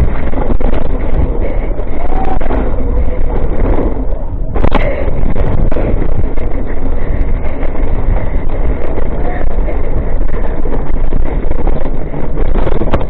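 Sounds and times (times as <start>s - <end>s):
bike rattling over rough ground: 0.0s - 13.0s
wind buffeting microphone: 0.0s - 13.0s.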